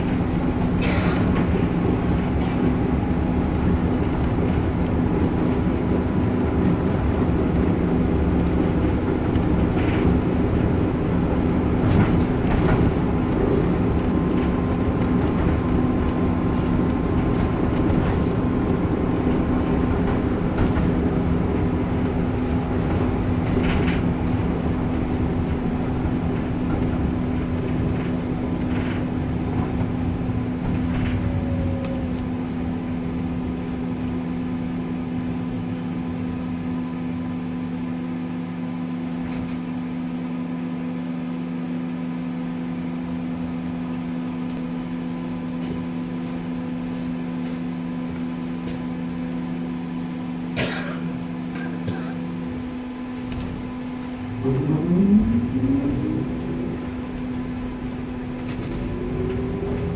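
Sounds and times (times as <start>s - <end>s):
tram rumbling on rails: 0.0s - 59.9s.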